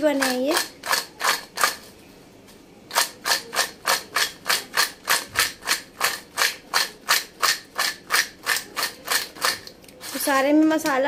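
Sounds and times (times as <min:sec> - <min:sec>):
fried potatoes rattling on steel plate: 0:00.0 - 0:01.9, 0:02.9 - 0:11.0.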